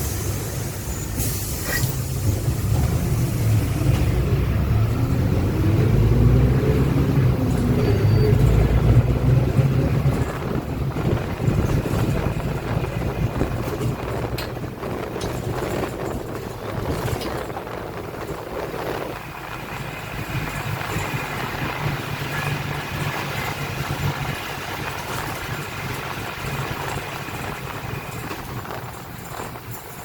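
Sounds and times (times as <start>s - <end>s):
bus engine running: 0.0s - 30.0s.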